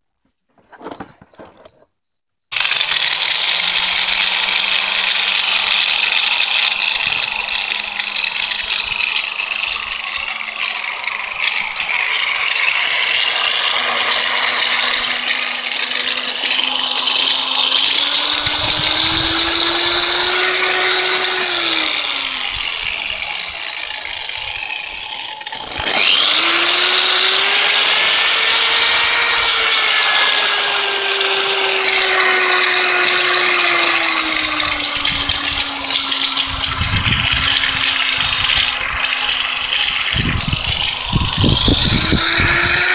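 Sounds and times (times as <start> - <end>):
angle grinder motor spinning: 2.5 - 42.9.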